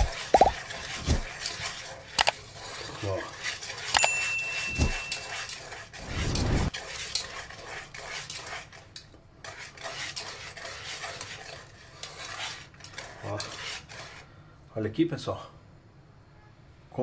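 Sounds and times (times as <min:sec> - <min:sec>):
whisk scraping and clicking in pan: 0:00.0 - 0:14.3.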